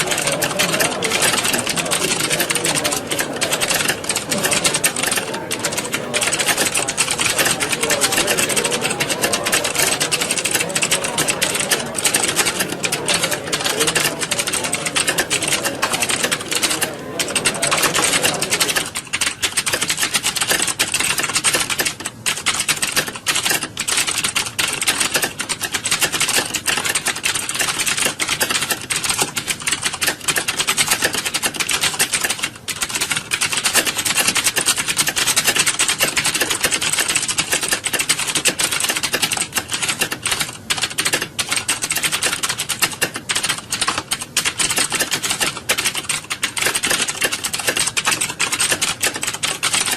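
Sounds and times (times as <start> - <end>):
many keyboards typing: 0.0 - 49.9.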